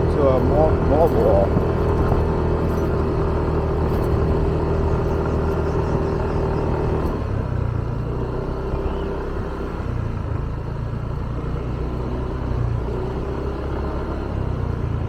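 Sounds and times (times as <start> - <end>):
motorbike engine rumbling: 0.0 - 15.0.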